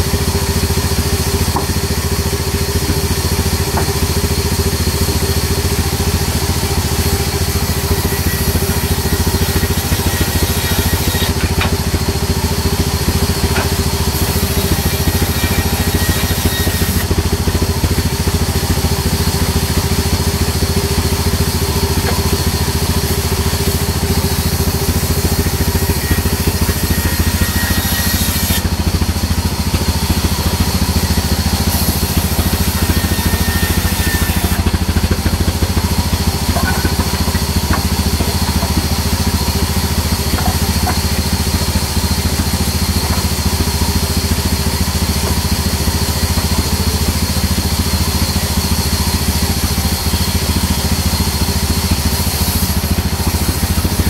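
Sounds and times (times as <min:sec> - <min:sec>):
band saw sawing a log: 0:00.0 - 0:54.0.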